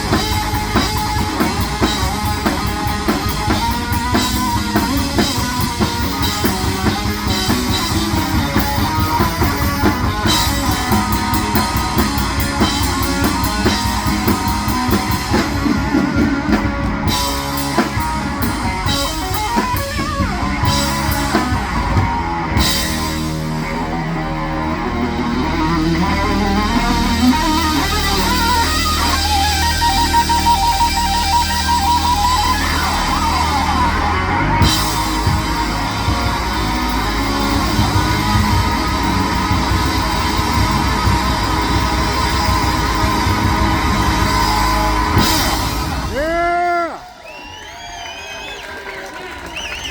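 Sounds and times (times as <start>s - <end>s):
electric guitar: 0.0s - 47.2s
drum kit: 0.0s - 49.9s.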